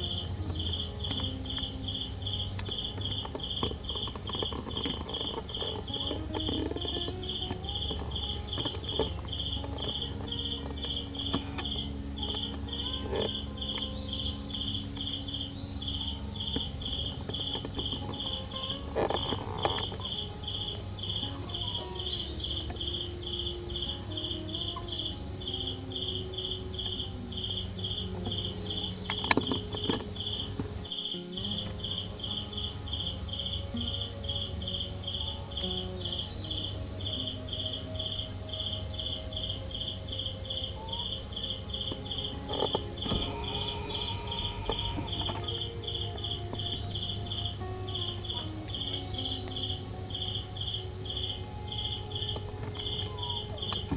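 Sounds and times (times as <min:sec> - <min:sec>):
high-pitched drone: 0:00.0 - 0:53.9
insects chirping: 0:00.0 - 0:53.9.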